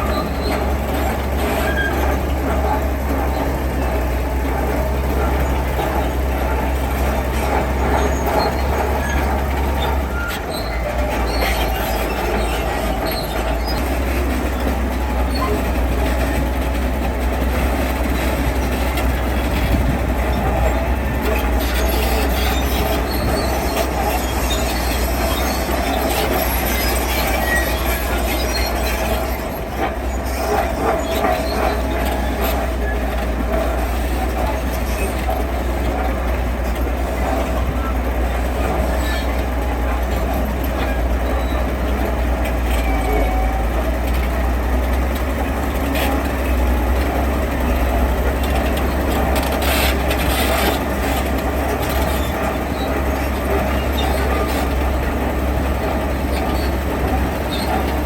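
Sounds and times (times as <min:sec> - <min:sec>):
diesel machinery engine drone: 0:00.0 - 0:58.0
metallic squealing and clanking: 0:00.0 - 0:58.0.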